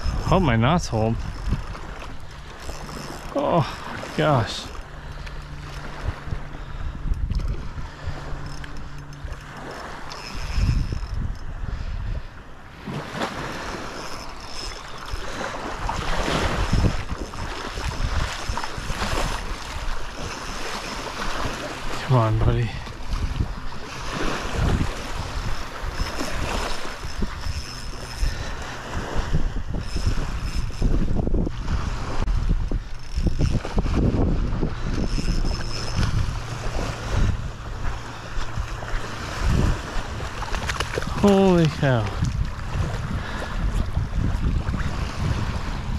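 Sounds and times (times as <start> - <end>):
small waves lapping on beach: 0.0 - 45.9
wind buffeting microphone: 0.0 - 45.9.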